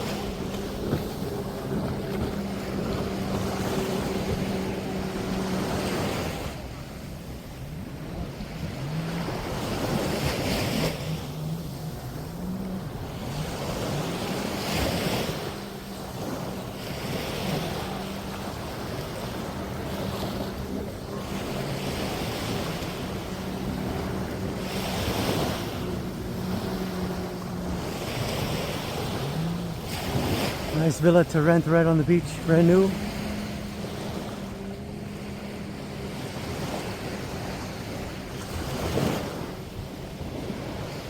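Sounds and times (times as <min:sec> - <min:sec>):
low motor hum: 0:00.0 - 0:41.0
sea waves washing onto beach: 0:00.0 - 0:41.0.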